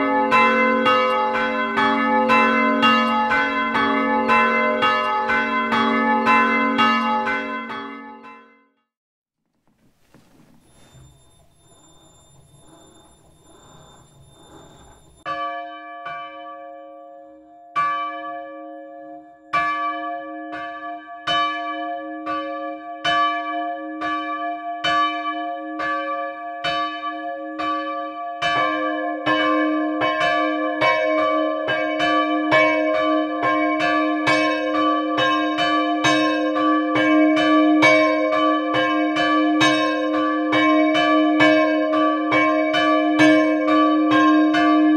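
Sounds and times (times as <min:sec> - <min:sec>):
church bells ringing: 0:00.0 - 0:08.6, 0:10.6 - 0:44.9.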